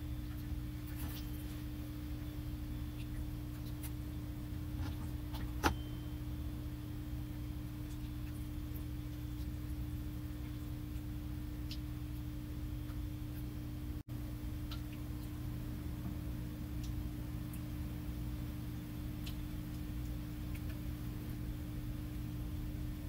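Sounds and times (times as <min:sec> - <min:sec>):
low hum with faint tone: 0:00.0 - 0:23.0.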